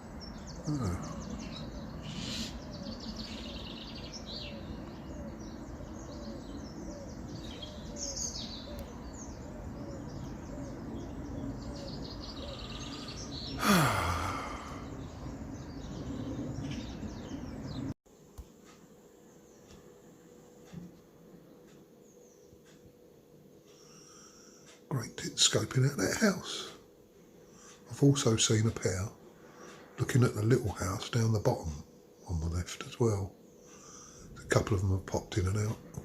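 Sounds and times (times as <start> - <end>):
birds chirping and singing: 0.0 - 18.0, 23.7 - 36.0
steady background hum: 0.0 - 36.0.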